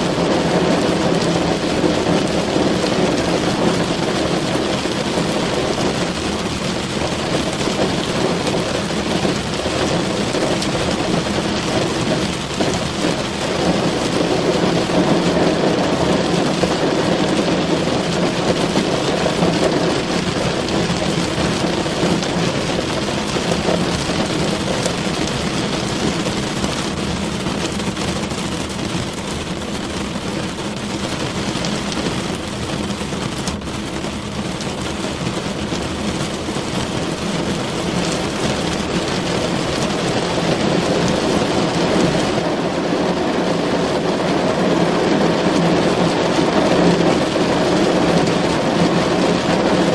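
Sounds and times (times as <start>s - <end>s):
heavy rain on car roof: 0.0s - 49.9s.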